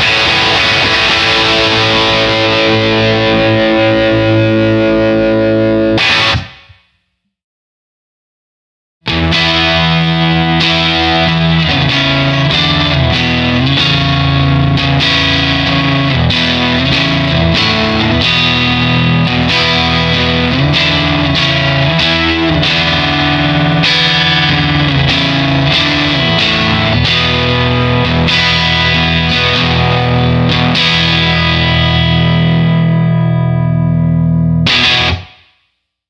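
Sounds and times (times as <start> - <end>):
distorted electric guitar chords: 0.0 - 6.9, 9.0 - 35.7.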